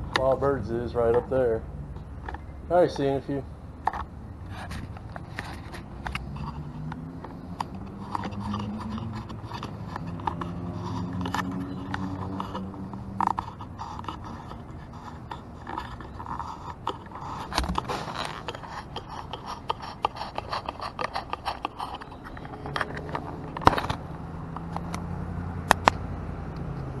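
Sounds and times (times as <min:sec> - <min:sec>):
vehicle engine running: 0:00.0 - 0:27.0
bicycle clicking and rattling: 0:02.2 - 0:25.0.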